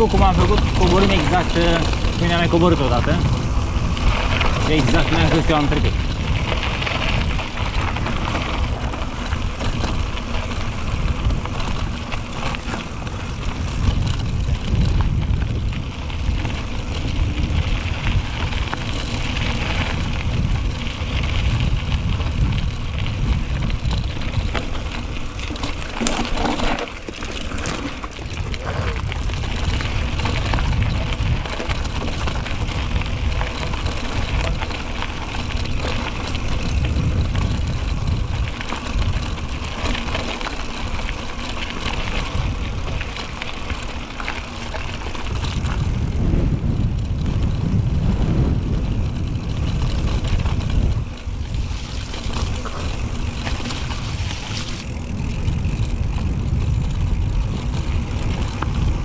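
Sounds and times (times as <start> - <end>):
bike tyre noise on trail: 0.0 - 59.0
wind rumbling on microphone: 0.0 - 59.0.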